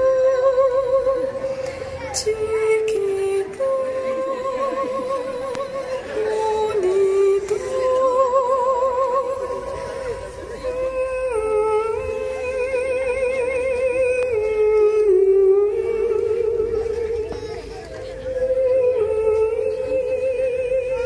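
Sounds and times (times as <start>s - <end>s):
woman singing slow melody: 0.0s - 21.0s.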